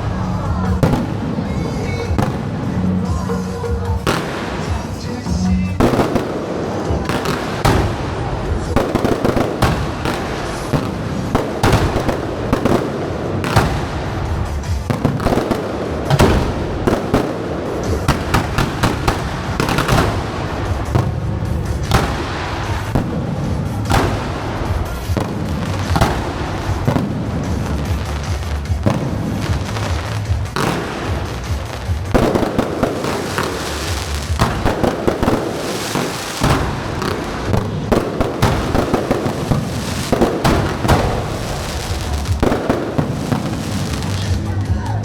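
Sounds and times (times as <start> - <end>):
fireworks bangs and crackles: 0.0 - 45.0
music playing: 0.0 - 45.0.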